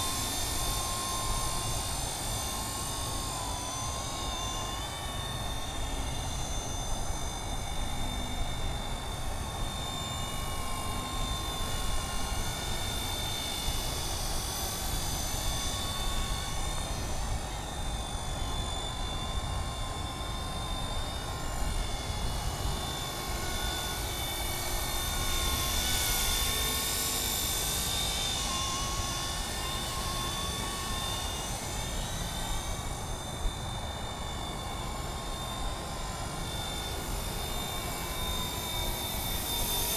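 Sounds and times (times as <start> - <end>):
helicopter rotor noise: 0.0 - 39.9.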